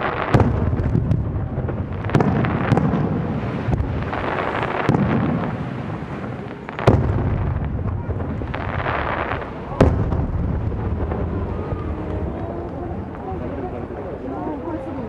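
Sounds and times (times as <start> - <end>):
rolling echo: 0.0 - 14.8.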